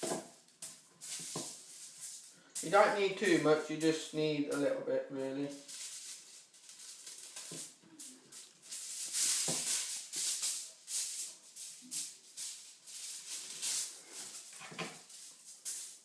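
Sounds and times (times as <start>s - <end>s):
aluminium foil crinkling: 0.0s - 16.0s.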